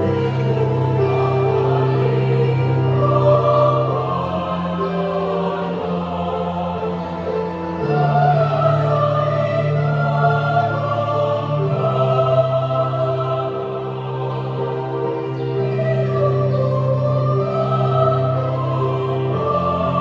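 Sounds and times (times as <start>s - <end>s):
youth choir singing: 0.0s - 20.0s.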